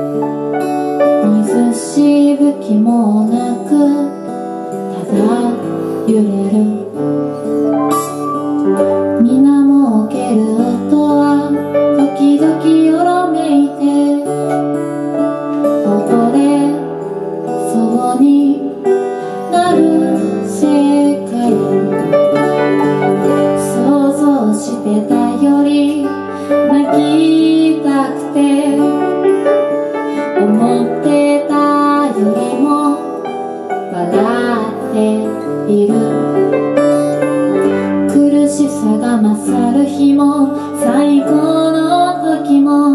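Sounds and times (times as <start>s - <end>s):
acoustic guitar: 0.0s - 42.9s
piano: 0.0s - 42.9s
woman singing: 1.0s - 15.0s, 15.6s - 42.9s.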